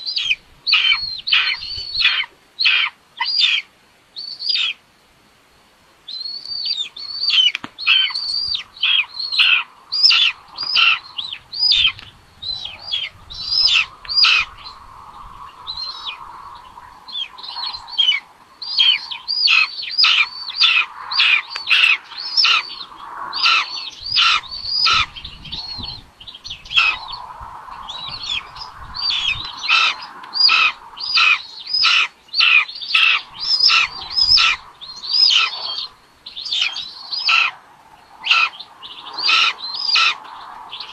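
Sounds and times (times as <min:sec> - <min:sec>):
raptor nestlings begging calls: 0:00.0 - 0:04.8, 0:06.1 - 0:40.9.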